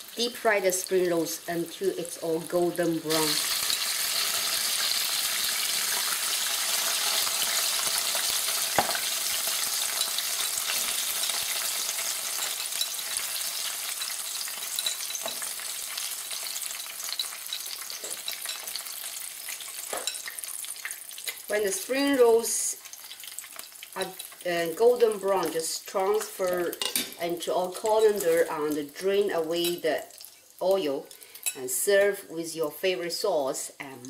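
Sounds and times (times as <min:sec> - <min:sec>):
food deep-frying in oil: 0:00.0 - 0:32.1.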